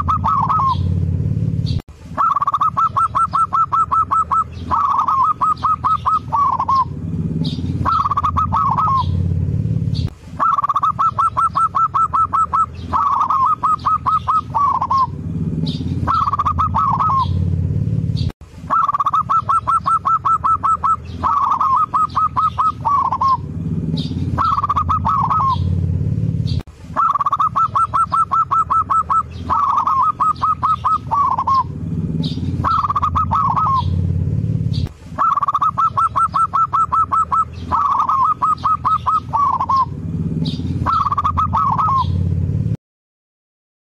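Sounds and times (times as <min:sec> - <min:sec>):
dove cooing: 0:00.0 - 0:01.2, 0:02.1 - 0:17.9, 0:18.6 - 0:26.3, 0:26.9 - 0:42.4.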